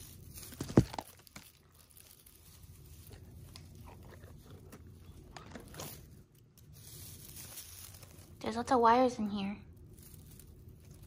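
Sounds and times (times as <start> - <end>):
rustling of artificial tree branches: 0.0 - 11.0.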